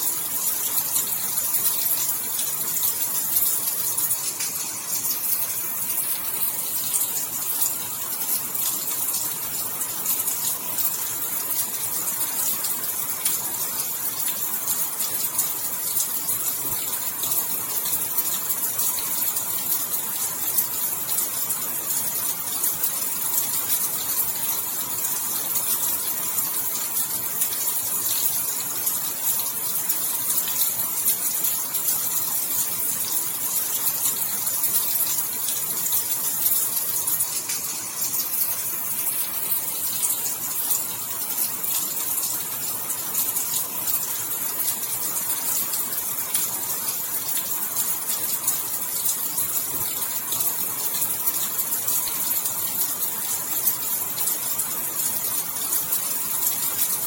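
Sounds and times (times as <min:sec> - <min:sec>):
heavy rainfall hiss: 0:00.0 - 0:57.0.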